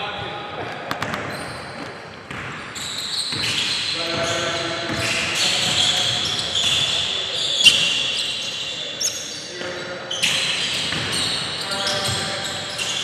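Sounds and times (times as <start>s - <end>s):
sneakers squeaking: 0.0s - 13.0s.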